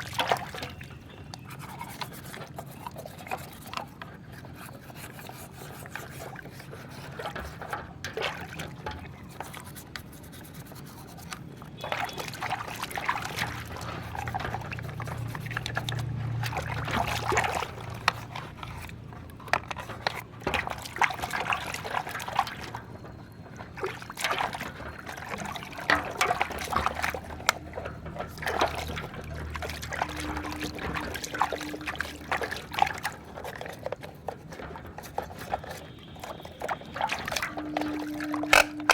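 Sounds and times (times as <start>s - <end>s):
toys clicking and knocking: 0.0s - 38.9s
water splashing and trickling: 0.0s - 38.9s.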